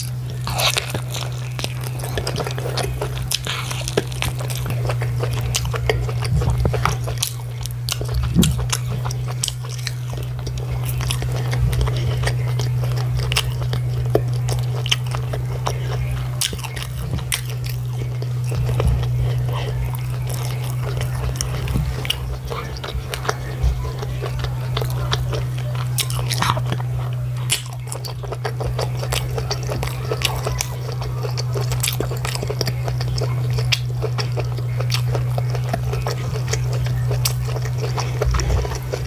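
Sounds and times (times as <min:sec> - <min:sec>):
chewing fried food: 0:00.0 - 0:39.0
steady low hum: 0:00.0 - 0:39.0.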